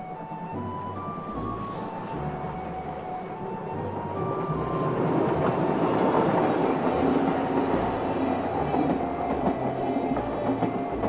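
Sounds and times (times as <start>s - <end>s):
train wheels clattering on rails: 0.1s - 11.0s.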